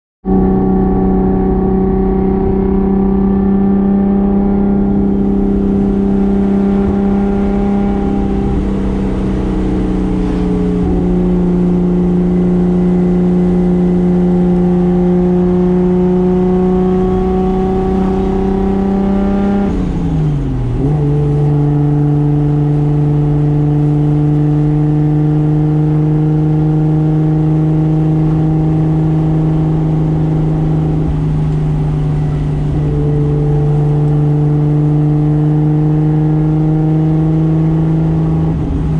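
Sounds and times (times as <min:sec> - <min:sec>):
car engine running: 0:00.2 - 0:38.9.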